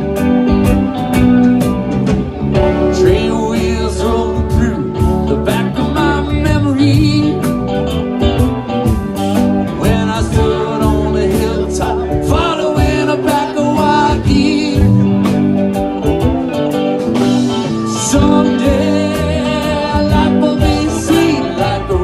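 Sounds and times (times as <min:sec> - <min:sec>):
live band playing country-rock: 0:00.0 - 0:22.0.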